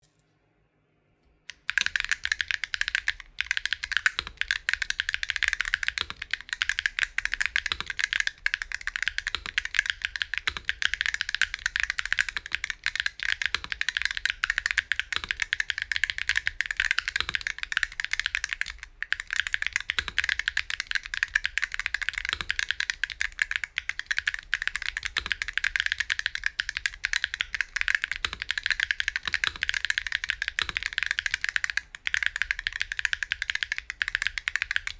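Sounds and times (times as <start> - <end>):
fast keyboard typing: 1.5 - 34.9.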